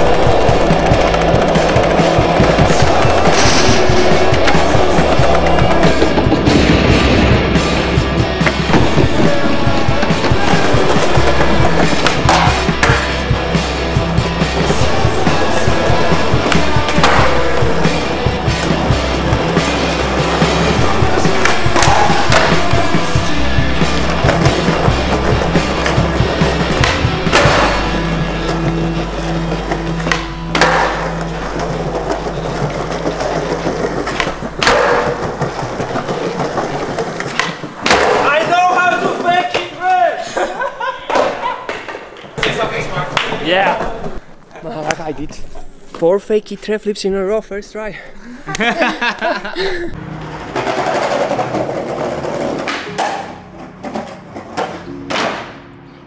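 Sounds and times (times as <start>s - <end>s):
background music low notes: 0.0s - 39.6s, 50.0s - 56.0s
skateboard wheels rolling: 0.0s - 44.2s, 49.9s - 55.6s.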